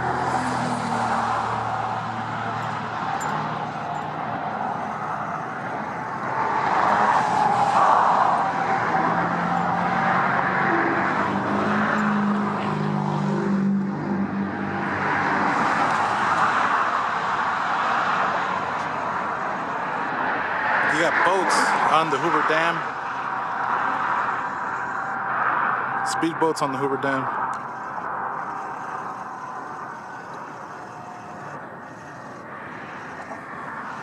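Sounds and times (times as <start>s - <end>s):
passing motor vehicles: 0.0s - 34.0s.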